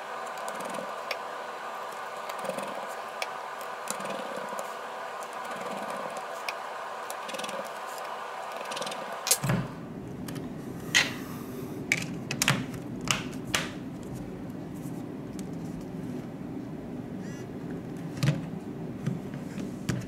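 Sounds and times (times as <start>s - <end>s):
faint steady background hum: 0.0s - 20.0s.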